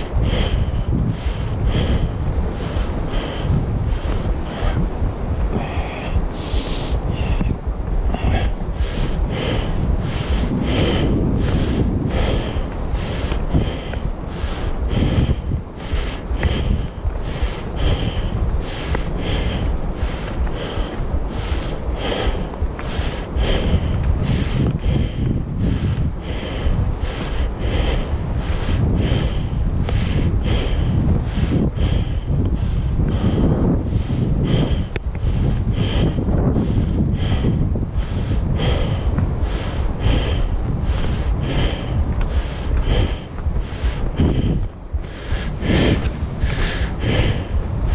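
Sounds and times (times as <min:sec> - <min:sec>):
person breathing heavily: 0:00.0 - 0:47.9
wind rumble on microphone: 0:00.0 - 0:47.9.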